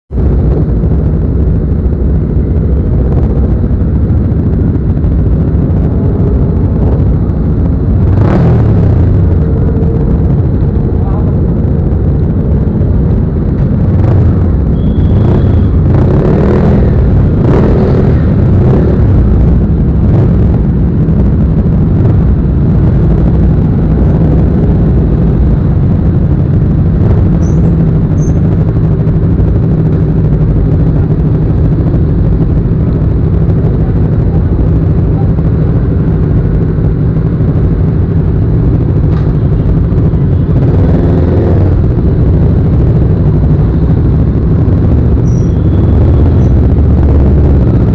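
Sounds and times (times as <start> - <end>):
motorcycle engine running: 0.1 - 47.9.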